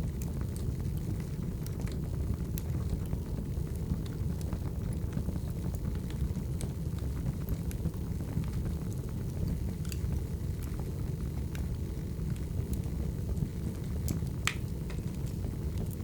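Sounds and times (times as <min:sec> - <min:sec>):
burning logs crackling: 0:00.0 - 0:16.0
flames rumbling: 0:00.0 - 0:16.0.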